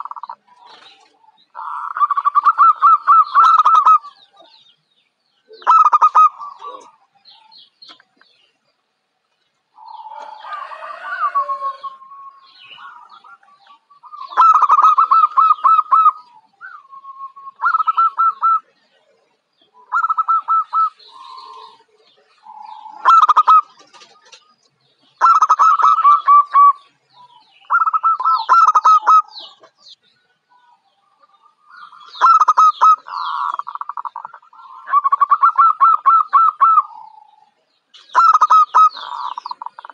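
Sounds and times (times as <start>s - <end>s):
dove cooing: 0.0s - 4.7s, 5.5s - 7.6s, 9.7s - 39.9s.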